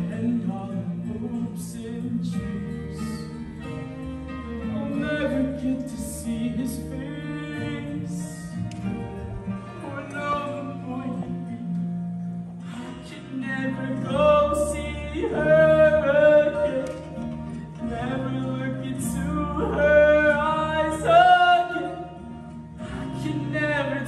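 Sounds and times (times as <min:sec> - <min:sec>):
man singing a ballad: 0:00.0 - 0:03.9, 0:04.5 - 0:11.9, 0:12.6 - 0:24.0
instrumental accompaniment: 0:00.0 - 0:24.0.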